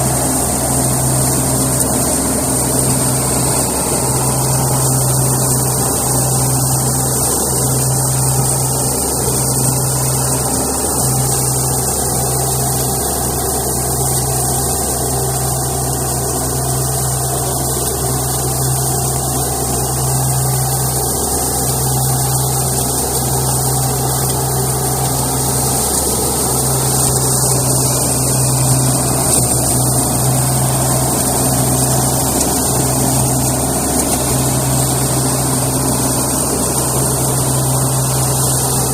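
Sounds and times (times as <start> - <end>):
weeder machine hum: 0.0 - 38.9.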